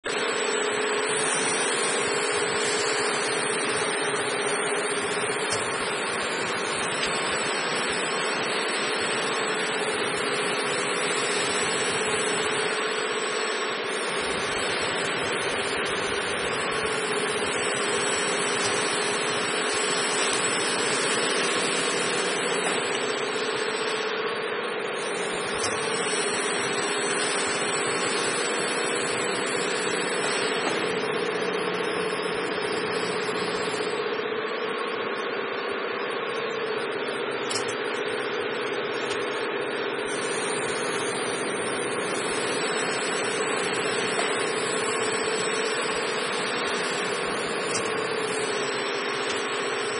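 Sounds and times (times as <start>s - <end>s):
faint high whine: 0.0s - 49.9s
filling machine humming and hissing: 0.0s - 49.9s.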